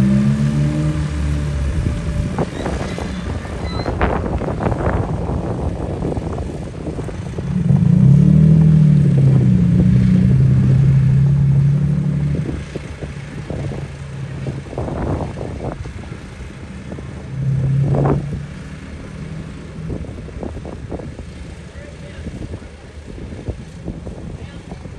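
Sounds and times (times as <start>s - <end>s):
tractor engines driving past: 0.0s - 24.9s.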